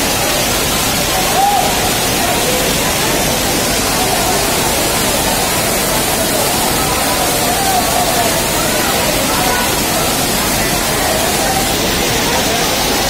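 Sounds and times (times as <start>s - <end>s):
heavy rain on train: 0.0s - 13.0s.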